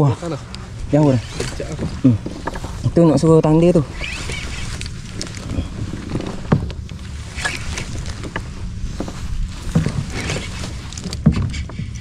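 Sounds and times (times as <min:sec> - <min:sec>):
low rumble of water and wind: 0:00.0 - 0:12.0.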